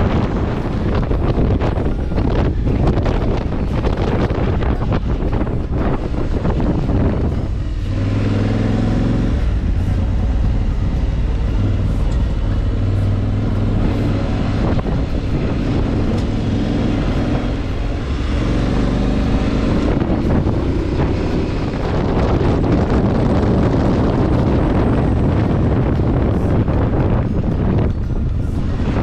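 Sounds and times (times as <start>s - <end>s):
motorcycle engine running: 0.0s - 29.0s
steady rush of noise: 0.0s - 29.0s.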